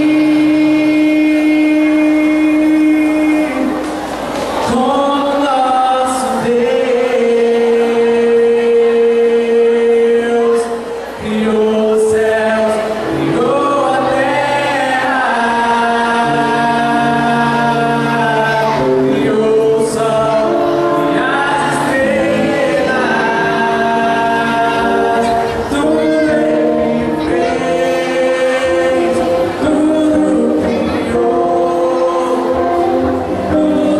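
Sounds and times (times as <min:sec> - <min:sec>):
man singing into a microphone: 0:00.0 - 0:03.9, 0:04.6 - 0:33.9
sustained backing chords: 0:00.0 - 0:33.9.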